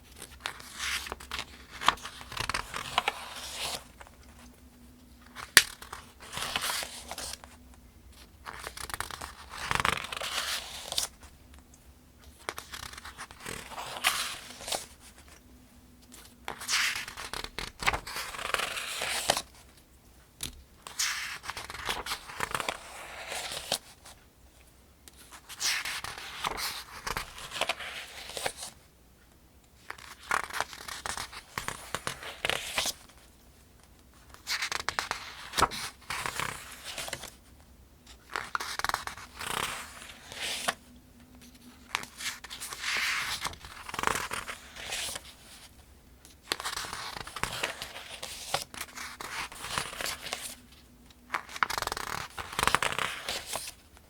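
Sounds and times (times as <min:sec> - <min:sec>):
book pages turning: 0:00.1 - 0:04.5, 0:05.2 - 0:07.5, 0:08.1 - 0:11.2, 0:12.2 - 0:15.4, 0:16.0 - 0:19.7, 0:20.4 - 0:24.2, 0:25.1 - 0:28.8, 0:29.8 - 0:33.3, 0:34.2 - 0:37.4, 0:38.1 - 0:40.8, 0:41.4 - 0:45.7, 0:46.3 - 0:54.0.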